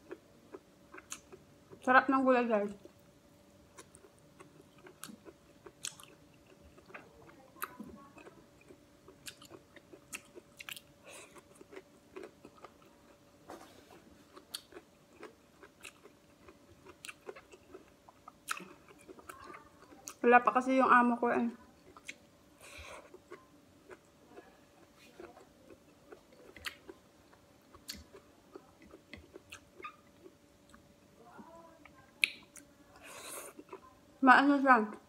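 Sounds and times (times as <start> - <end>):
person chewing with mouth smacks: 0.0 - 1.8, 3.7 - 20.2, 21.8 - 30.8, 31.8 - 33.9
faint steady hum: 0.0 - 35.0.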